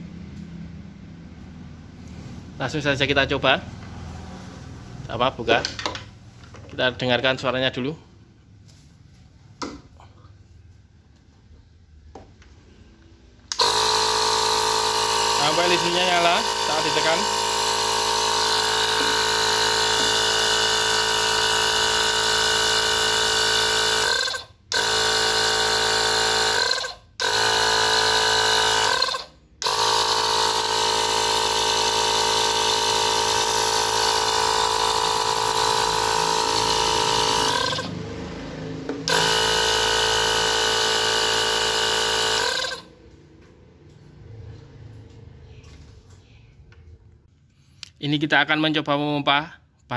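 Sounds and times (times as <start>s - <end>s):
air compressor motor running: 0.0s - 8.4s, 12.1s - 44.9s.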